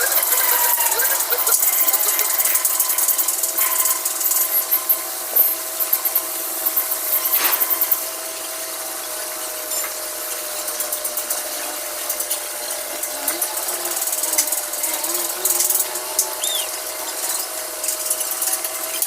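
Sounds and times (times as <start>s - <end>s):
steady whine: 0.0s - 19.0s
welding arc crackling and hissing: 0.0s - 19.0s.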